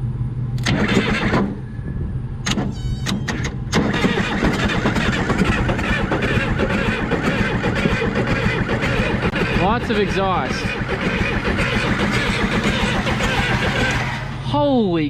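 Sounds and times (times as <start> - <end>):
engine cranking and starting: 0.6 - 1.7, 2.4 - 14.5.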